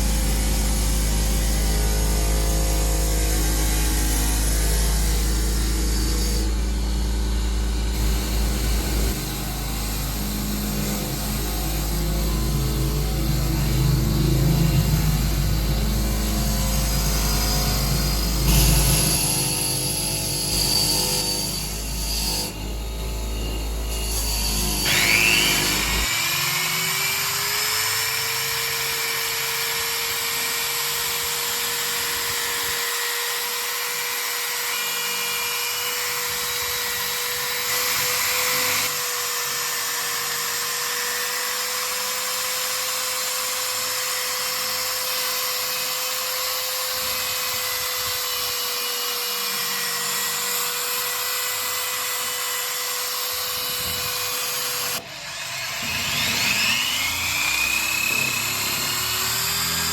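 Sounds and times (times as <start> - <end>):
electric power tool whining: 0.0 - 59.9.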